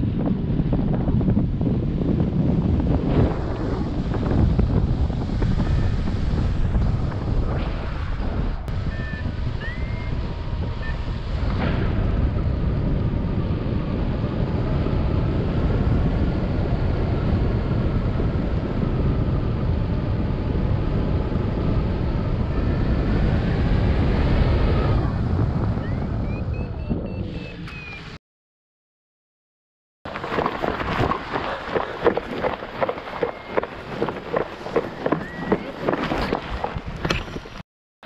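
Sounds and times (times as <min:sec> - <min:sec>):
wind buffeting microphone: 0:00.0 - 0:28.1, 0:30.1 - 0:37.6.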